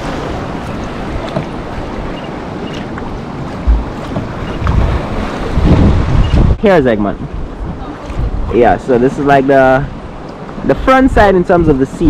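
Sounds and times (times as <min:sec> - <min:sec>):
choppy sea water washing: 0:00.0 - 0:12.0
wind buffeting microphone: 0:00.0 - 0:12.0.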